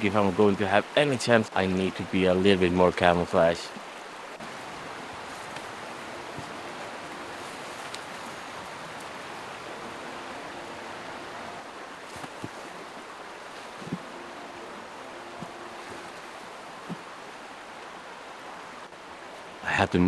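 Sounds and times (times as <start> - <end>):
river flowing: 0.0 - 20.0.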